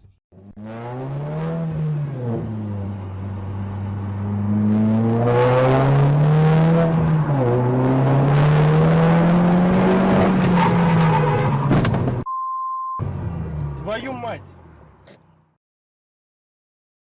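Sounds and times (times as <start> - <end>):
car engine accelerating: 0.3 - 12.2, 13.0 - 15.4.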